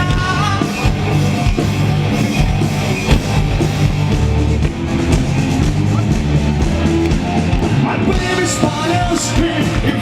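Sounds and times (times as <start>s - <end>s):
bass guitar: 0.0s - 10.0s
drum kit: 0.0s - 10.0s
electric guitars: 0.0s - 10.0s.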